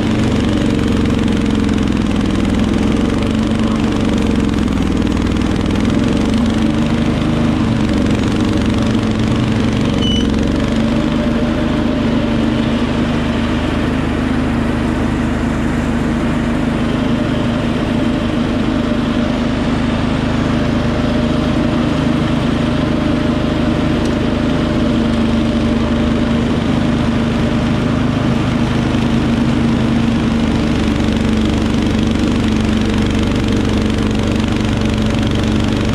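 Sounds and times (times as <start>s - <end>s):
garden tractor engine running: 0.0s - 35.9s.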